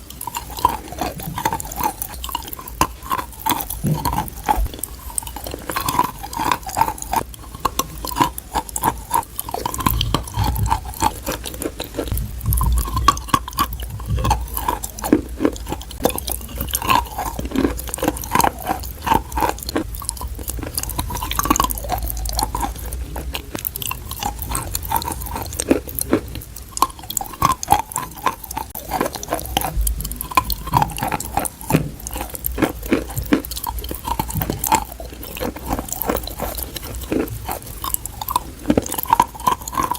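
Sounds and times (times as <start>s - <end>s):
crunchy chewing: 0.0s - 39.9s
mouth sounds: 0.0s - 39.9s.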